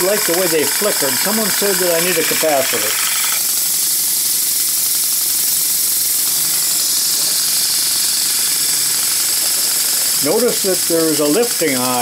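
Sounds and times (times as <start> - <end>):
hissing exhaust: 0.0 - 12.0
model steam engine running fast: 0.0 - 12.0.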